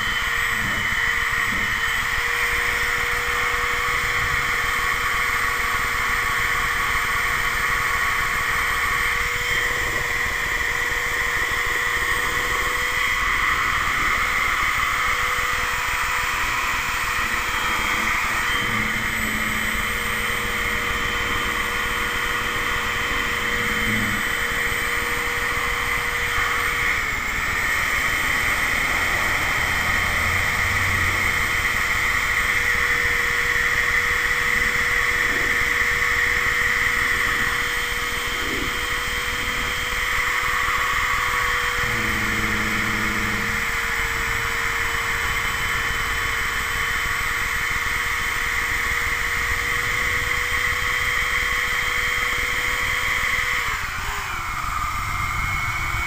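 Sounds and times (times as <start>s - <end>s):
electric drill mixing sealant: 0.0s - 56.0s.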